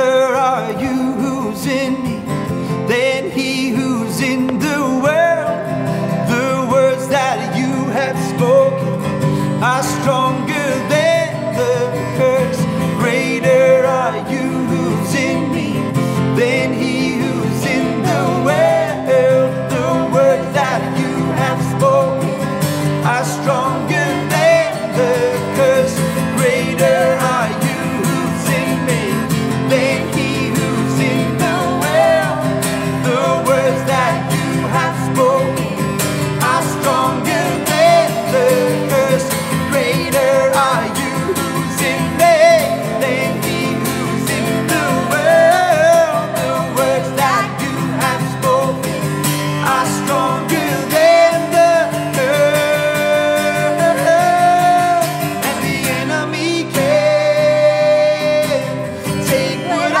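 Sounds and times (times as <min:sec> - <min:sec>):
acoustic guitar: 0:00.0 - 1:00.0
man and woman singing: 0:00.0 - 1:00.0.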